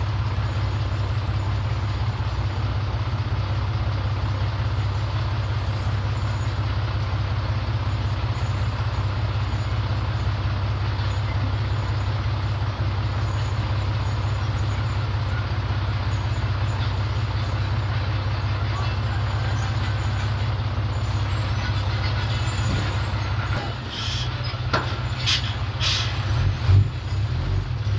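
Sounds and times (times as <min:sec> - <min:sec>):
bulldozer diesel engine droning: 0:00.0 - 0:27.9.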